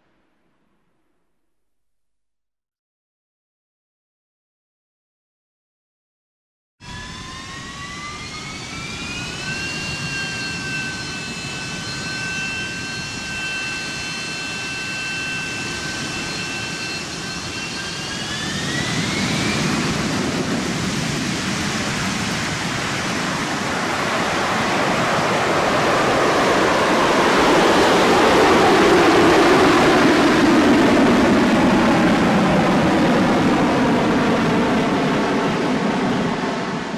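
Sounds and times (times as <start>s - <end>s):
high turbine whine: 6.8s - 36.9s
jet roar: 6.8s - 36.9s.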